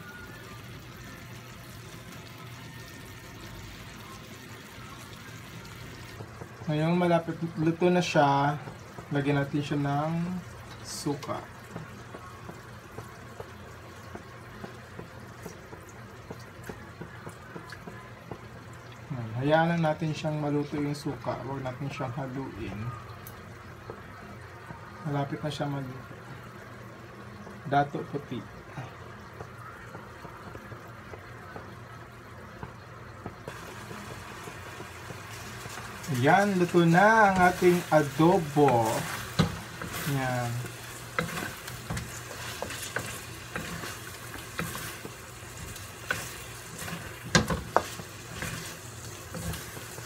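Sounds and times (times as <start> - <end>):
sauce simmering in a wok: 0.0 - 50.0.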